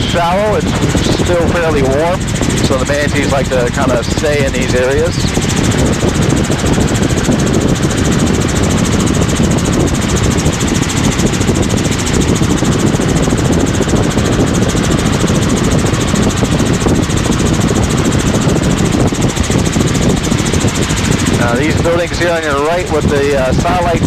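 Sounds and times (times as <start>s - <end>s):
helicopter engine and rotor noise: 0.0s - 24.0s.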